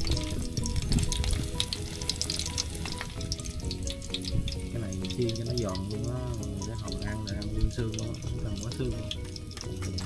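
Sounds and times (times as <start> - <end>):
background music: 0.0 - 10.0
food sizzling in hot oil: 0.0 - 10.0.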